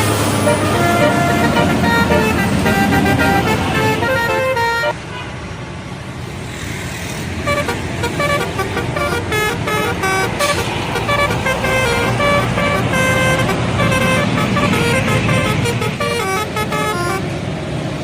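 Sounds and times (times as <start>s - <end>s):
multi-tone air horn tune: 0.0s - 5.0s, 7.4s - 17.3s
bus engine rumble: 0.0s - 18.0s.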